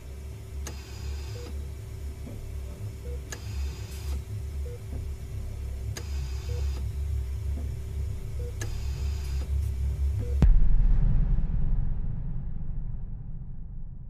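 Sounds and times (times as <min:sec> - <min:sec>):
low pulsing drone: 0:00.0 - 0:14.0
steady hum: 0:00.0 - 0:14.0.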